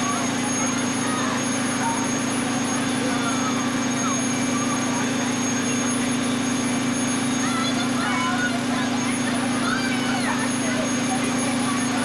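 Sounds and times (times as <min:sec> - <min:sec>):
faint distant voices: 0:00.0 - 0:12.0
fire engine pump droning: 0:00.0 - 0:12.0.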